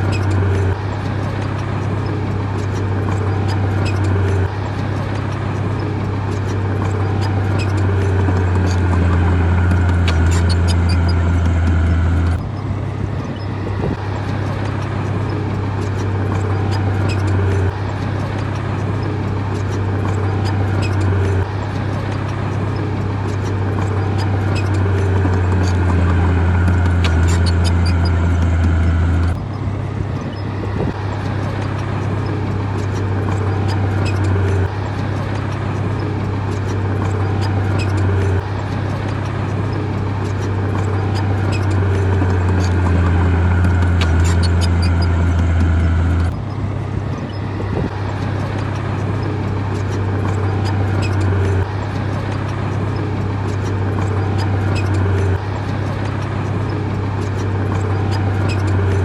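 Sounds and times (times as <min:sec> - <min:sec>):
diesel machinery engine drone: 0:00.0 - 0:59.0.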